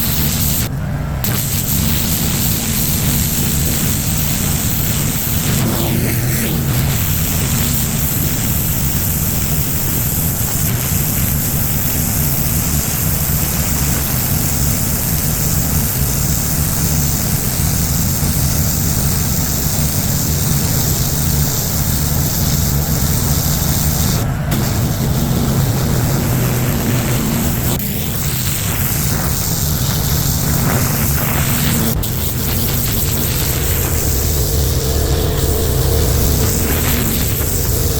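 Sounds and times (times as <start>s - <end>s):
pressure washer engine drone: 0.0s - 37.9s
water spraying onto pavement: 0.0s - 37.9s.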